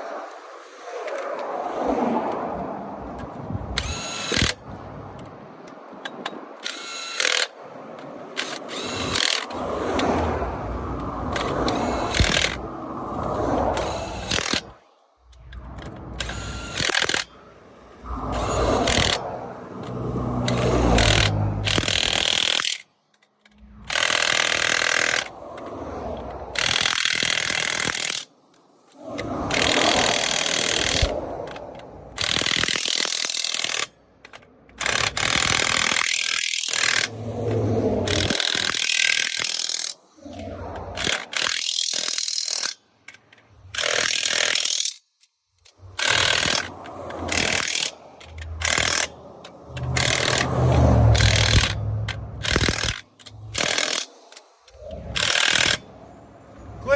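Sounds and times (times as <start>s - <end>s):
impact wrench bursts: 3.7s - 4.6s, 6.6s - 7.6s, 8.3s - 22.9s, 23.5s - 25.4s, 26.2s - 28.3s, 29.4s - 56.0s.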